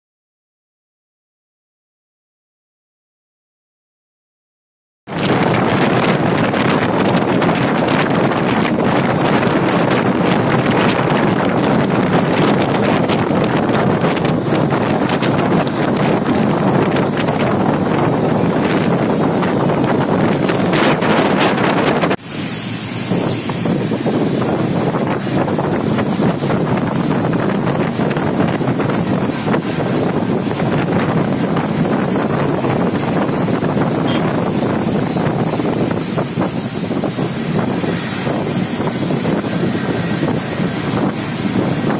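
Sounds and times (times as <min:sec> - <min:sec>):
bus road noise: 0:05.1 - 0:41.9
wind rushing over microphone: 0:05.1 - 0:41.9.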